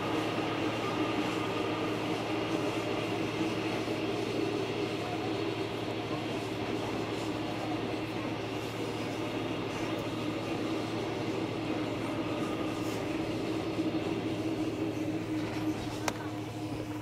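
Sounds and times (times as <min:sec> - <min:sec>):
steady low hum: 0:00.0 - 0:17.0
train rolling rumble: 0:00.0 - 0:17.0.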